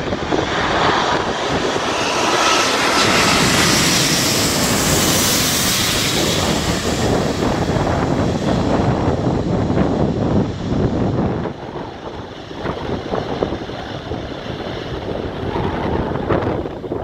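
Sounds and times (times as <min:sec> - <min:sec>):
faint jet whine: 0:00.0 - 0:17.0
jet airliner passing overhead: 0:00.0 - 0:17.0
wind buffeting microphone: 0:00.0 - 0:17.0.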